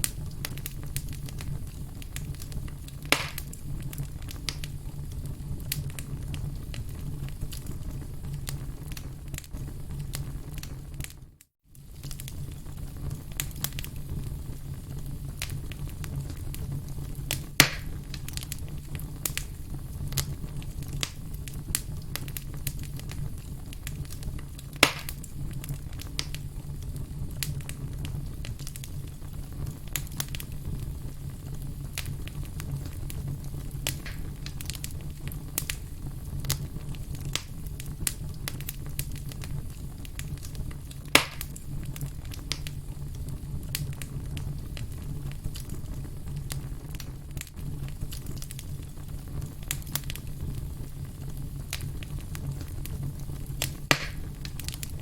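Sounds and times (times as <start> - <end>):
campfire crackling: 0.0 - 55.0
loud fire pops: 0.0 - 55.0.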